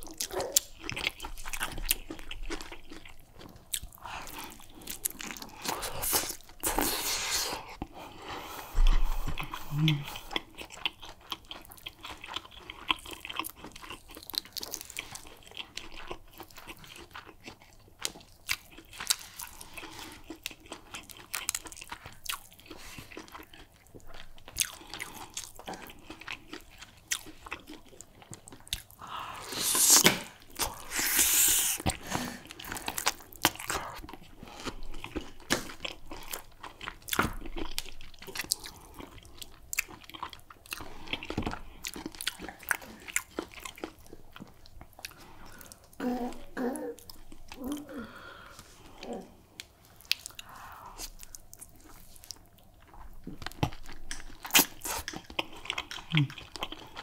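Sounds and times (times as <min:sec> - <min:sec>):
chewing and gnawing on bone: 0:00.0 - 0:06.9, 0:08.9 - 0:31.2, 0:31.8 - 0:46.0, 0:48.7 - 0:57.0.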